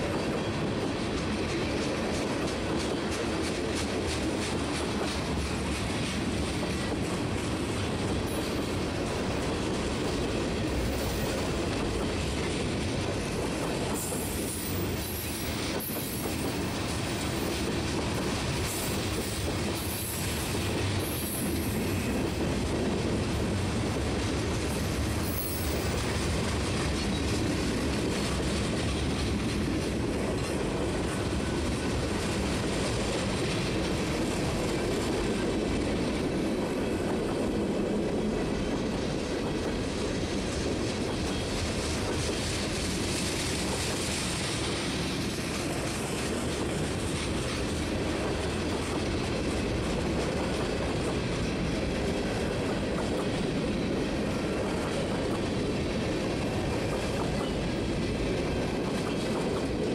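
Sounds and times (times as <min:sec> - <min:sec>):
steel wheels on rails: 0:00.0 - 0:59.9.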